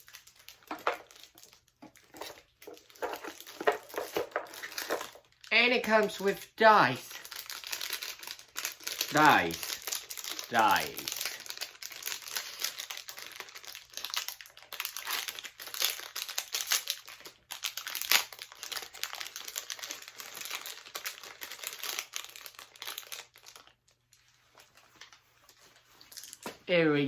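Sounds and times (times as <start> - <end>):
plastic packaging crinkling: 0.0 - 26.7.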